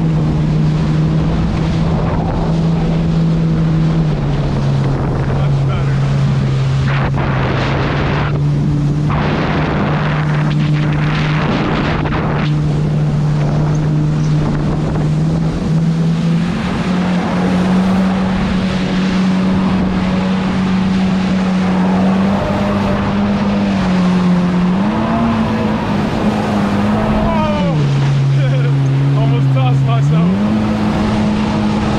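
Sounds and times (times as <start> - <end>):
jet ski engine running: 0.0 - 31.9
wind rushing over microphone: 0.0 - 31.9.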